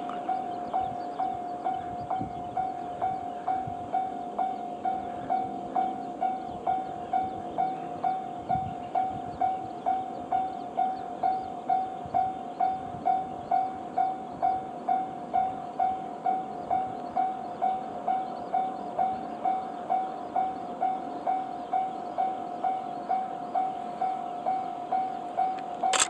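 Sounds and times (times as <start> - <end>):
faint train rumble: 0.0 - 26.0.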